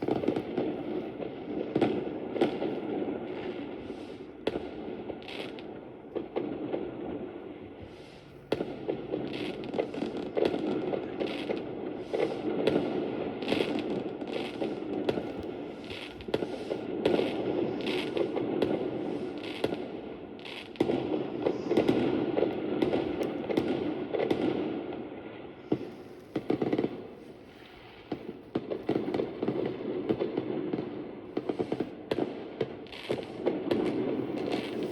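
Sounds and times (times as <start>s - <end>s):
fireworks crackling and popping: 0.0s - 34.9s.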